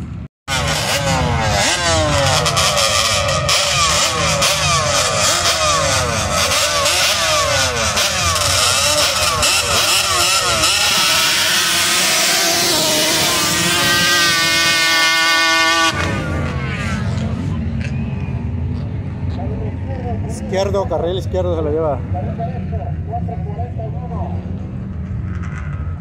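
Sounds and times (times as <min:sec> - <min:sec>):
engines revving hard: 0:00.5 - 0:23.3, 0:24.1 - 0:26.0.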